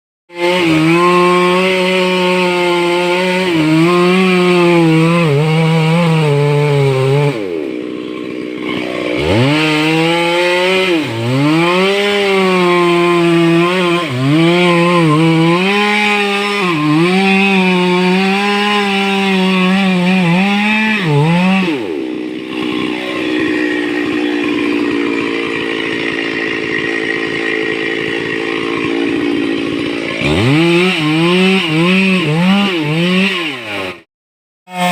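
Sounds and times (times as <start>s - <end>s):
chainsaw cutting wood: 0.3s - 34.1s, 34.7s - 34.9s.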